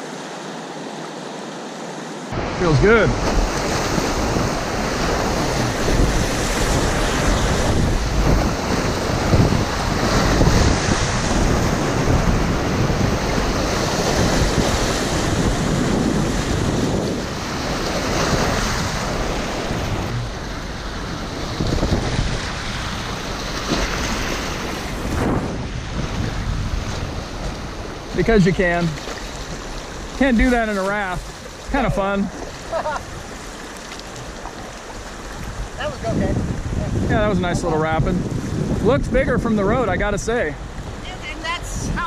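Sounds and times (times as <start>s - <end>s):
whitewater rushing: 0.0s - 36.4s
wind buffeting microphone: 2.3s - 42.0s.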